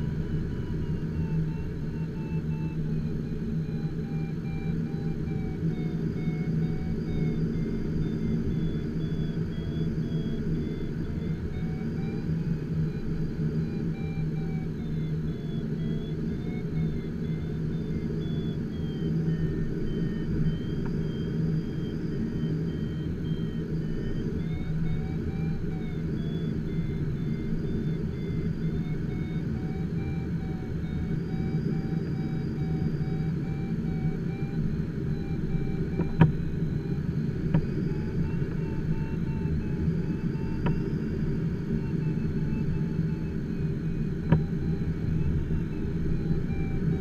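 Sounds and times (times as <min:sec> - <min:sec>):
cockpit engine rumble: 0:00.0 - 0:47.0
faint wandering electronic beeping: 0:00.0 - 0:47.0.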